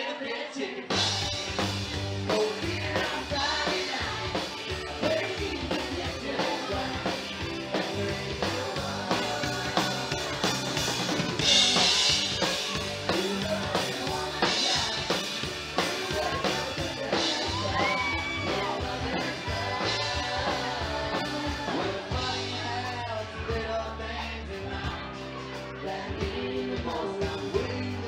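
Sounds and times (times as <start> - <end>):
drum kit beat: 0.9 - 23.6
country band playing: 0.9 - 28.0.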